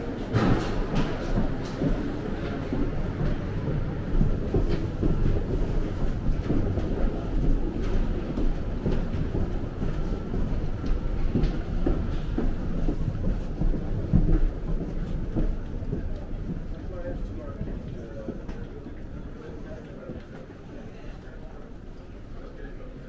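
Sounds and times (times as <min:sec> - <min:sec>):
footsteps on walkway: 0:00.0 - 0:21.8.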